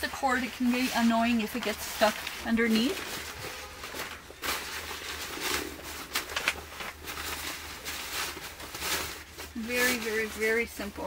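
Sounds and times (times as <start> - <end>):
nylon bag rustling and scraping: 0.0 - 11.0.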